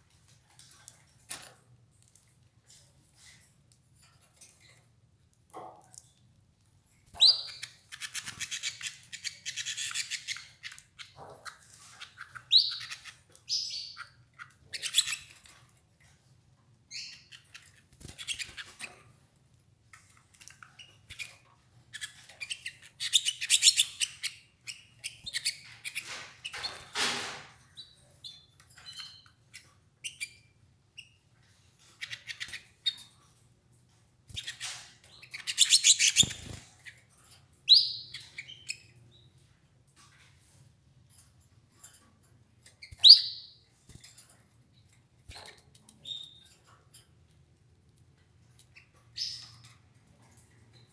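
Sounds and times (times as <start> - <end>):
canaries chirping and trilling: 6.8 - 50.9.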